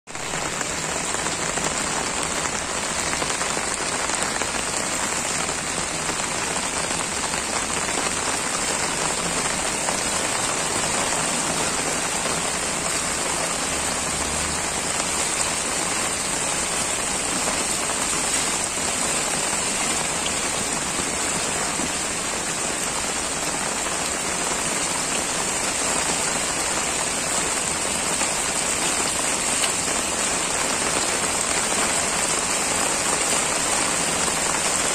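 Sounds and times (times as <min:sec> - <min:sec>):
heavy rain on a wet road: 0:00.1 - 0:34.9.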